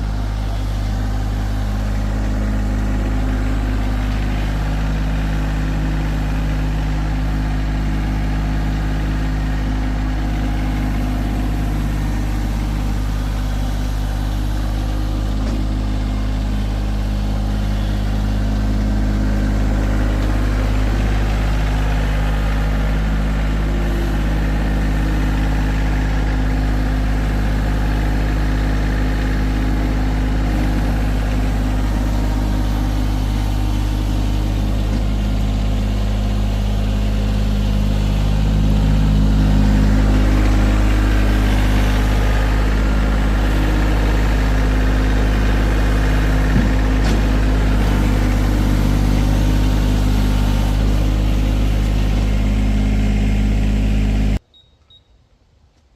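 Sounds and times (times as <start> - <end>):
tractor engine droning: 0.0 - 55.6.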